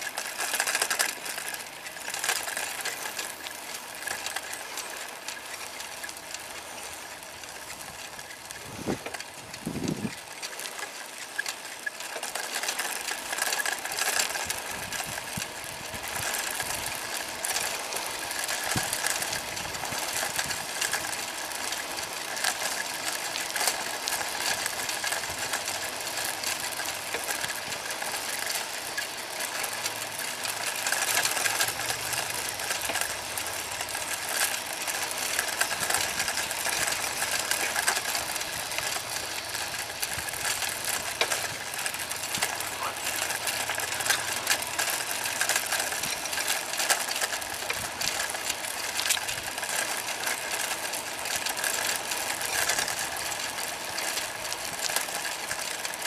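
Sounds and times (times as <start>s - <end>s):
bicycle tyres rolling on asphalt: 0.0s - 56.0s
bike clicks and rattles: 0.0s - 56.0s.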